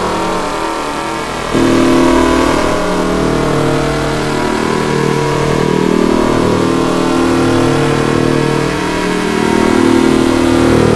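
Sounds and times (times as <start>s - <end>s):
distorted electronic drone: 0.0s - 10.9s.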